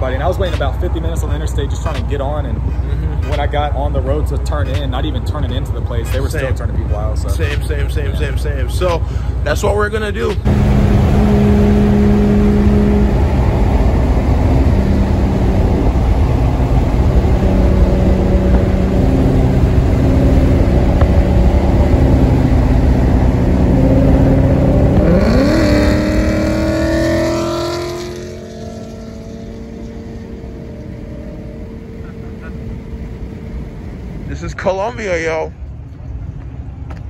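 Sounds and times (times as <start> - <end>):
car engine revving: 0.0 - 35.3.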